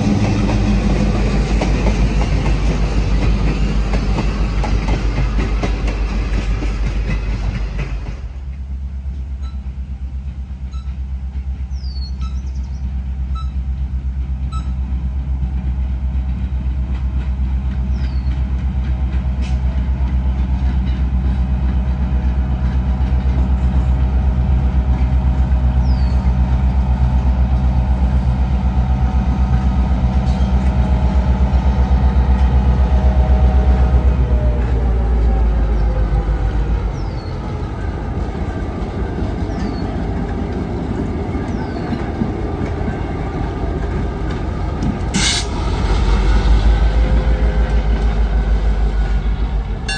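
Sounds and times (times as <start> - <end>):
diesel locomotive engine drone: 0.0 - 49.9
train rumble: 0.0 - 49.9.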